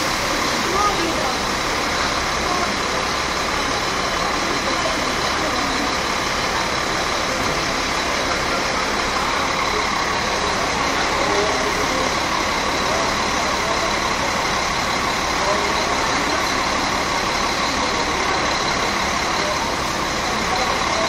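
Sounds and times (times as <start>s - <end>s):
diesel bus engines idling: 0.0s - 21.0s.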